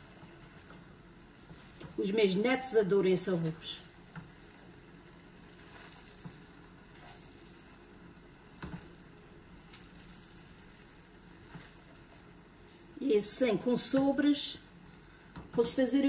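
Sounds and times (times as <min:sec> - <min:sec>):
spatula stirring rice in pan: 0:00.0 - 0:15.7.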